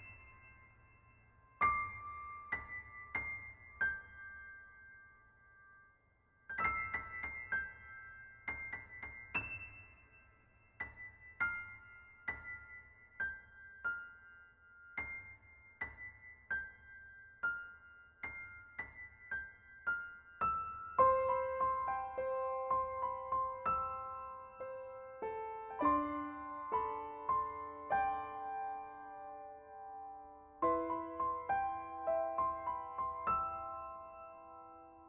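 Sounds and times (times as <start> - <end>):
slow solo piano: 0.0 - 35.0.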